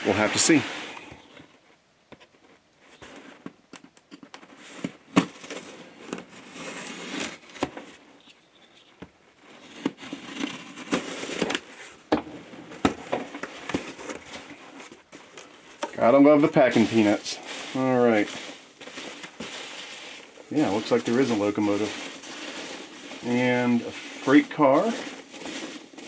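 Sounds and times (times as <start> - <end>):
tape and cardboard crinkling: 0.0 - 26.0.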